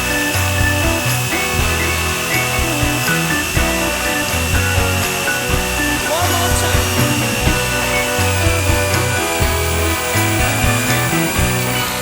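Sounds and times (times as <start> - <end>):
instrumental music with bass: 0.0 - 12.0.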